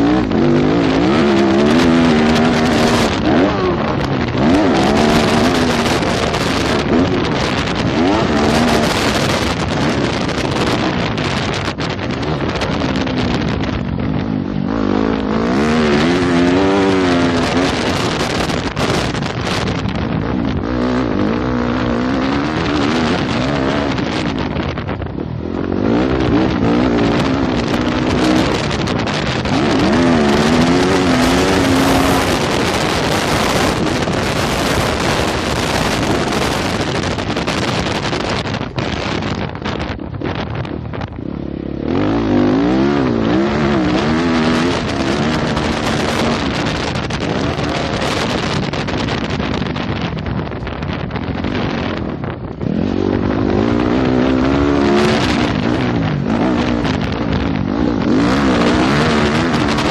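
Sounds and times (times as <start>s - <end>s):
motorcycle engine revving: 0.0s - 59.9s
wind rushing over microphone: 0.0s - 59.9s.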